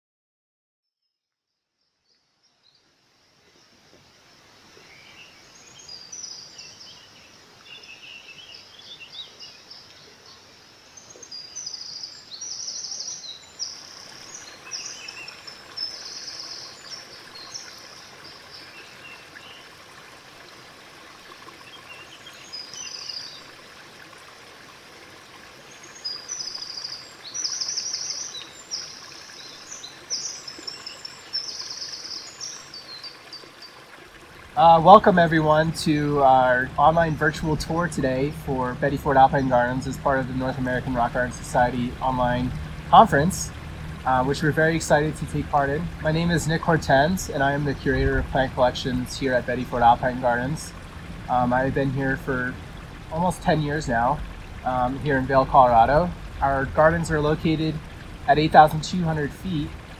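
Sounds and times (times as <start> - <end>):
flowing creek: 2.4 - 59.9
small birds chirping: 4.8 - 19.7, 21.5 - 23.5, 25.6 - 33.8, 34.4 - 59.9.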